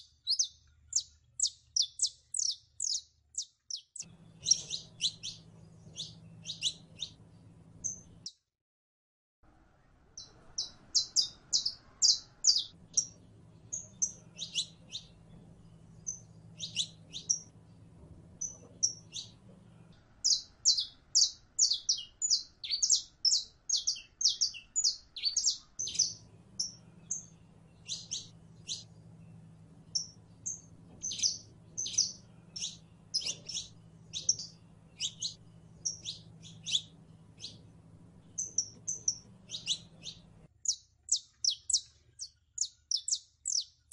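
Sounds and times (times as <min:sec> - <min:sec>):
finch singing: 0:00.0 - 0:08.3, 0:10.2 - 0:43.9.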